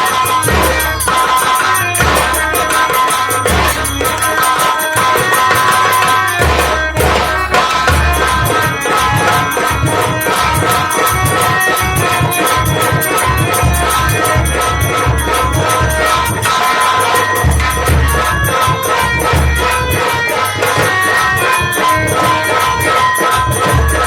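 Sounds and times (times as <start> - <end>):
drum strokes: 0.0 - 24.0
held melody notes: 0.0 - 24.0
jingling percussion: 0.0 - 24.0.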